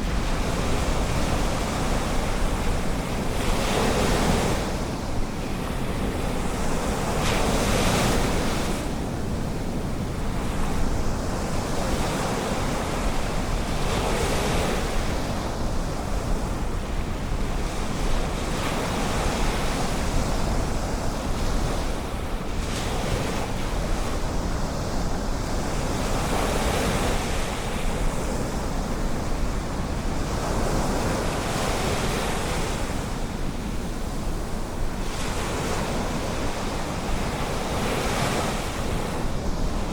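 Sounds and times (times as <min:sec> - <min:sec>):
waves breaking on shore: 0:00.0 - 0:39.9
wind rumble on microphone: 0:00.0 - 0:39.9.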